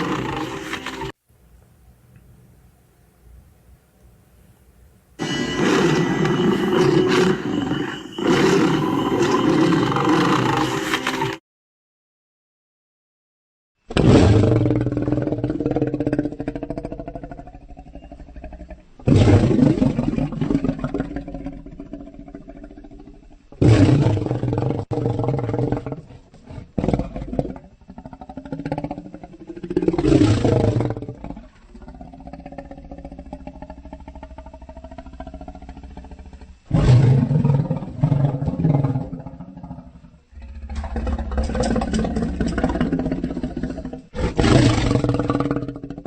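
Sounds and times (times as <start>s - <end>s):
low lion growl: 0.0s - 0.8s, 5.2s - 11.0s, 14.0s - 46.0s
lion roaring: 0.0s - 1.1s, 5.2s - 11.3s, 13.9s - 46.0s.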